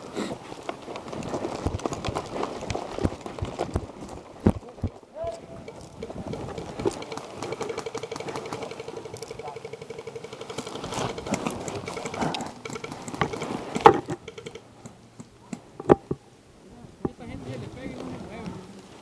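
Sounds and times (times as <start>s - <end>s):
airsoft gun rapid ticking: 0.7s - 16.0s
sharp cracks: 0.9s - 16.1s.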